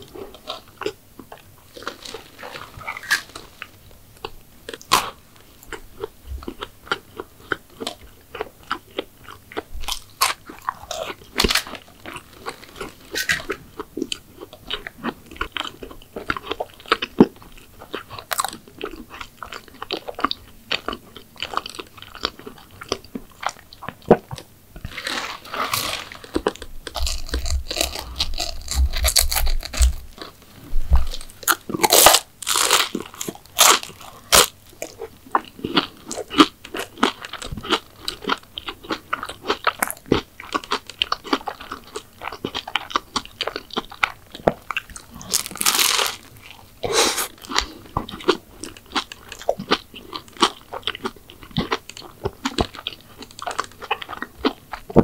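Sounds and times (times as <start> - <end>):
wet chewing: 0.0 - 55.0
crunchy bites into pastry: 0.2 - 55.0.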